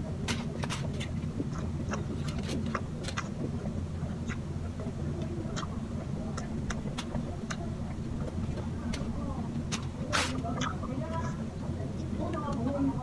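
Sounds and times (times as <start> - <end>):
person chewing with wet smacks: 0.0 - 12.9
steady low hum: 0.0 - 13.0.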